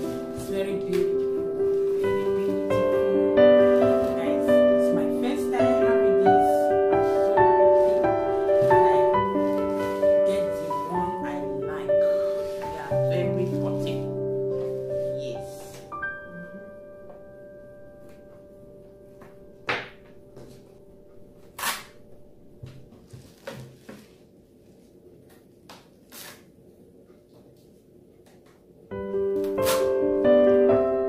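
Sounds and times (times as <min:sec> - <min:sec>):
piano music: 0:00.0 - 0:23.3, 0:28.8 - 0:31.0.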